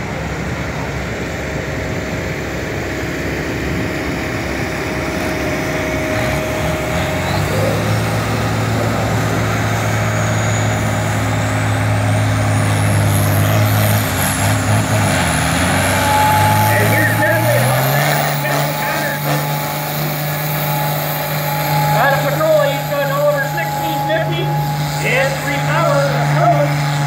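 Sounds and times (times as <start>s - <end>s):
high whine: 0.0s - 27.0s
tractor engine at full throttle: 0.0s - 27.0s.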